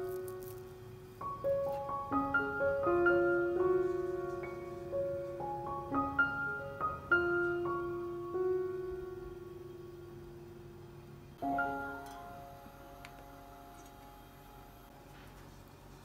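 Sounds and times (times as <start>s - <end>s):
gentle melody of struck notes: 0.0s - 15.1s.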